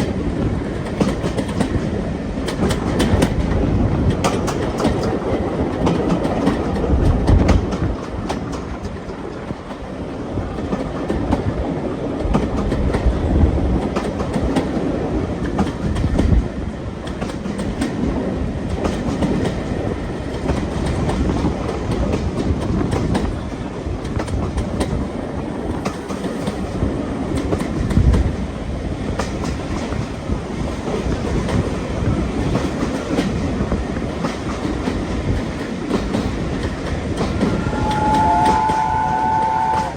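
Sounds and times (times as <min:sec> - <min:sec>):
railway carriage running rumble: 0:00.0 - 0:39.9
wheels clicking over rail joints: 0:00.0 - 0:39.9.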